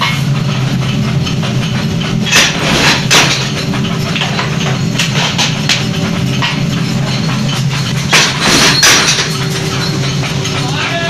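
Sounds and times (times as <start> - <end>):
machinery humming: 0.0 - 11.0
metal clanks: 0.0 - 11.0.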